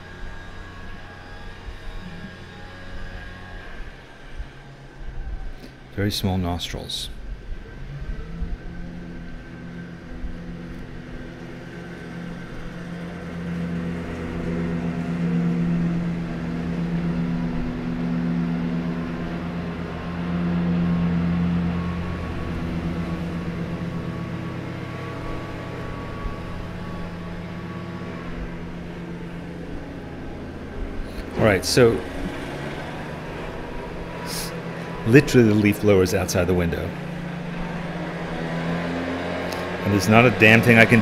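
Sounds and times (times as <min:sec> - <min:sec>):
leaf blower engine drone: 0:00.0 - 0:41.0.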